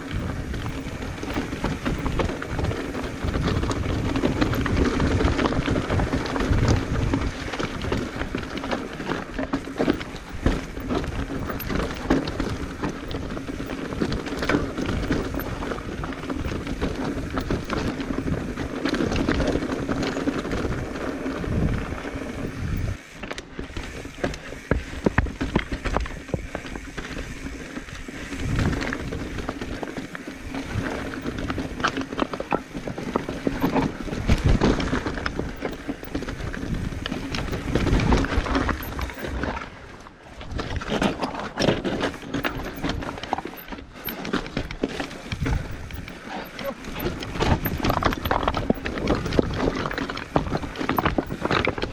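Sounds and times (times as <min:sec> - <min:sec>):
mountain bike clattering over stones: 0:00.0 - 0:51.9.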